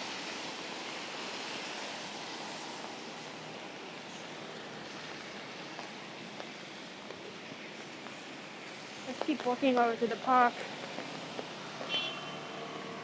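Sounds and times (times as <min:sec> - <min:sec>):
rain falling on street: 0:00.0 - 0:13.0.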